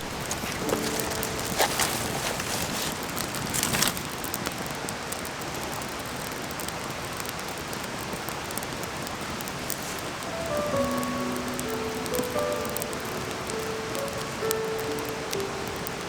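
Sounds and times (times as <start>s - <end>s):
crackles: 0.0s - 16.0s
mountain stream rushing: 0.0s - 16.0s.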